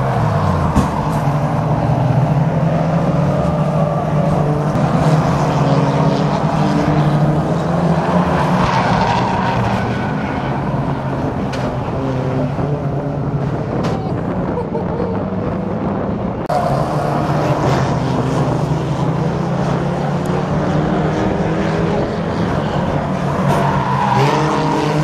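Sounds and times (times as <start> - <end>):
racing car engines droning: 0.0 - 25.0.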